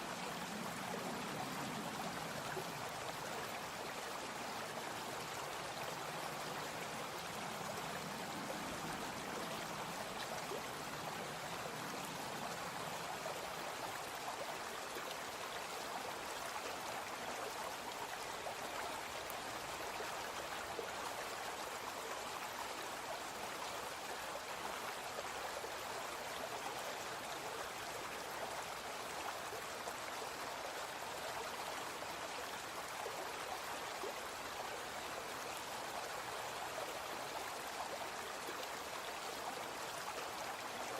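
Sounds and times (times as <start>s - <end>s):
brook flowing: 0.0s - 40.9s.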